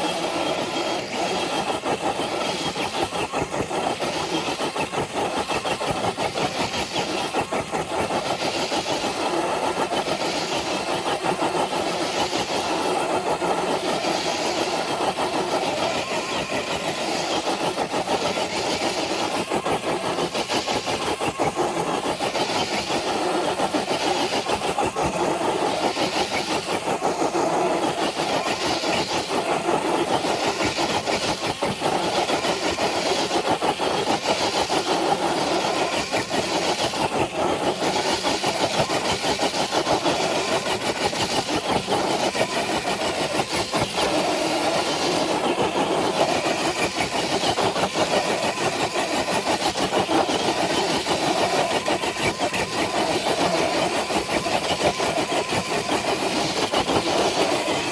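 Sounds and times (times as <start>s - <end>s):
electric motor and gearbox whining: 0.0s - 57.9s.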